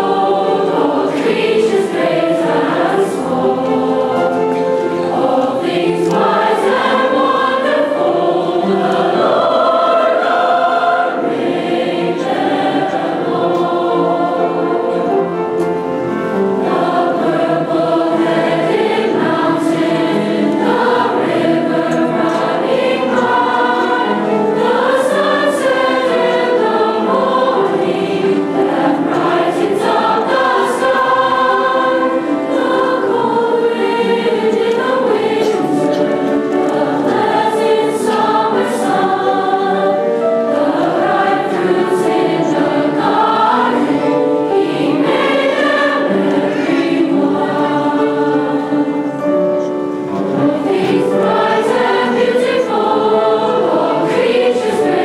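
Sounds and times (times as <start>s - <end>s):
youth choir singing: 0.0s - 55.0s.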